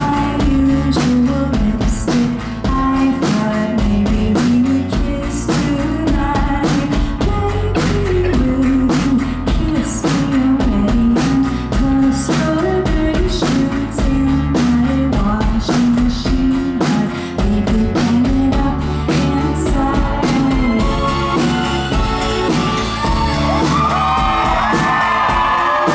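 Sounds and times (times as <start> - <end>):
live rock band playing: 0.0 - 25.9
woman singing: 0.0 - 25.9.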